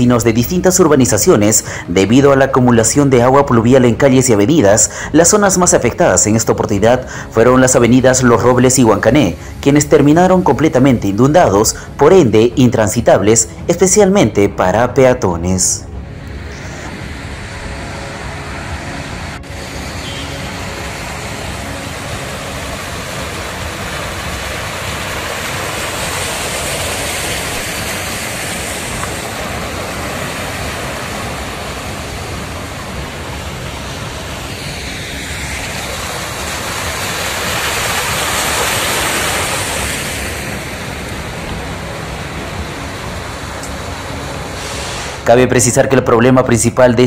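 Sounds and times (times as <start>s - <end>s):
tyres hissing through floodwater: 0.0s - 14.7s, 16.1s - 46.9s.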